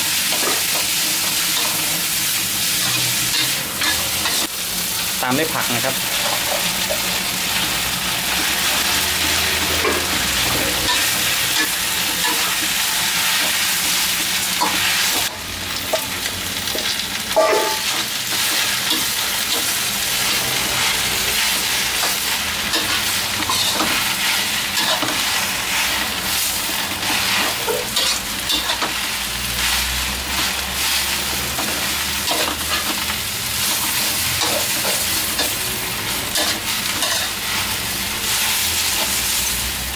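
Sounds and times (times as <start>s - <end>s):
stir-fry sizzling in a wok: 0.0s - 39.9s.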